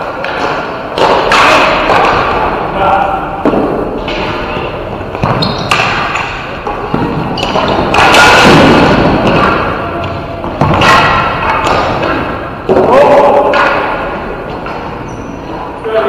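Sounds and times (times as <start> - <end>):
ball and sticks thudding on boards: 0.0 - 2.7, 3.3 - 15.6.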